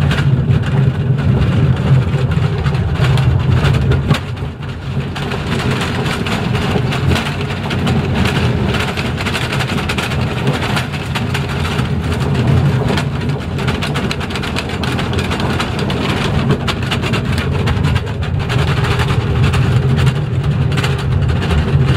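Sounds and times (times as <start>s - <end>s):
steel wheels rumbling on rail: 0.0s - 21.9s
wooden car clicking and rattling: 0.0s - 21.9s.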